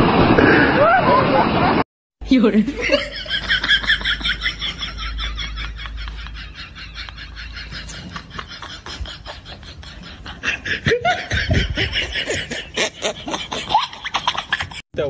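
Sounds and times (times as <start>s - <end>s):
men laughing: 2.7s - 14.8s.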